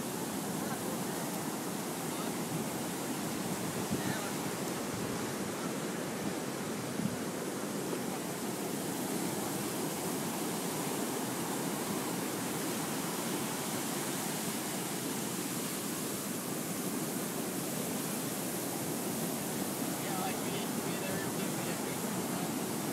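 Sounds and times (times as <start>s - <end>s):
heavy surf breaking on beach: 0.0s - 22.9s.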